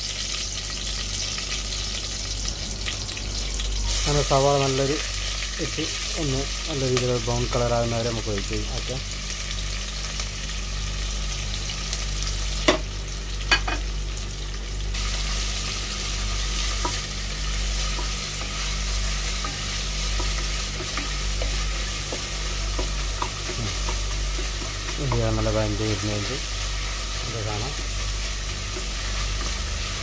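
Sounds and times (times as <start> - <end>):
onions sizzling in oil: 0.0 - 30.0.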